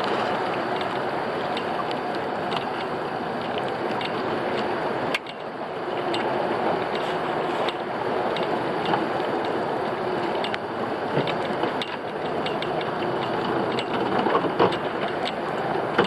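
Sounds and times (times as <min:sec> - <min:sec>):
boat motor running: 0:00.0 - 0:16.0
water noise: 0:00.0 - 0:16.0.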